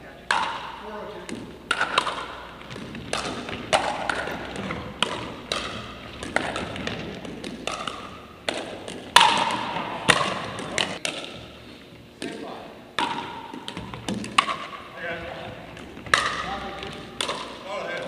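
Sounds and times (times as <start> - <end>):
paddles hitting plastic ball: 0.3 - 11.6, 12.2 - 18.0.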